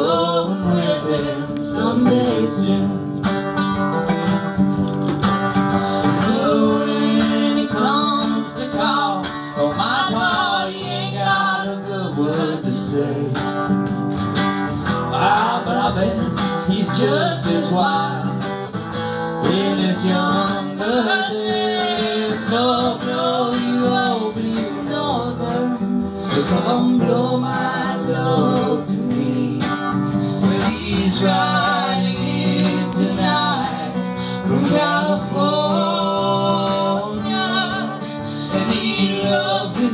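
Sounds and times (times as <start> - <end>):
man and woman singing: 0.0 - 3.4, 5.7 - 13.7, 14.8 - 39.9
strummed acoustic guitar: 0.0 - 39.9.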